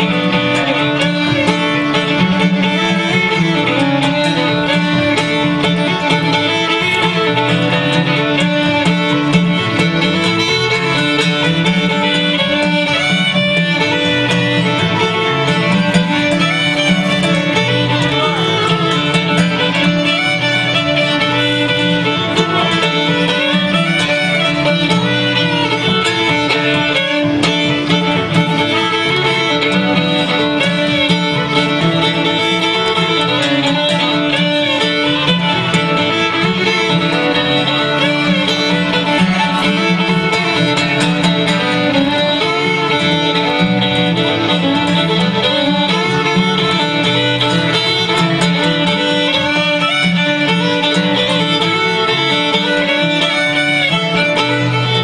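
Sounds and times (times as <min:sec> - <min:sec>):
acoustic guitar accompaniment: 0:00.0 - 0:55.0
fiddle melody: 0:00.0 - 0:55.0.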